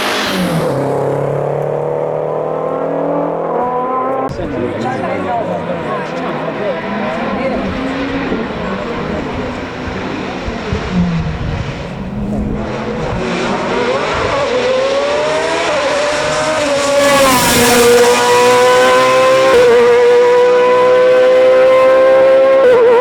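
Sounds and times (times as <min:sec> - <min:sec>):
racing car engine at high revs: 0:00.0 - 0:23.0.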